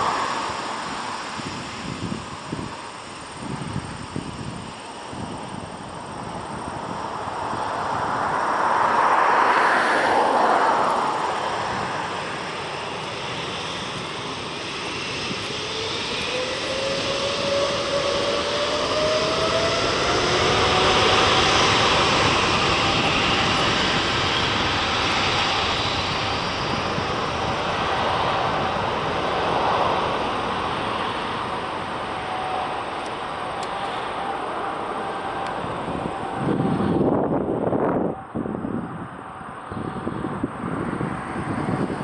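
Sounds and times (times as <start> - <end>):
jet engine whine: 0.0 - 42.0
jet engines roaring: 0.0 - 42.0.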